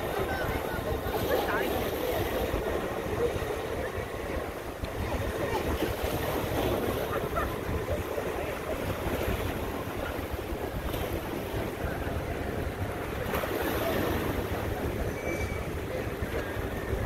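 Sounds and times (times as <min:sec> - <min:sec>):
water splashing against rocks: 0:00.0 - 0:17.0
wind buffeting microphone: 0:00.0 - 0:17.0.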